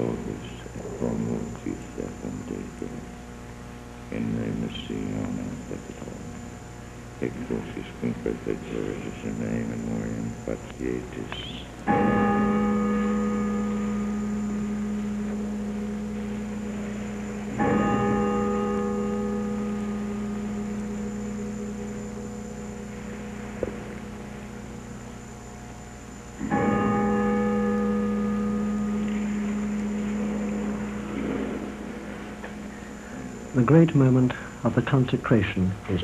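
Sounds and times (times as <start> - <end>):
low church bell ringing: 0.0 - 36.0.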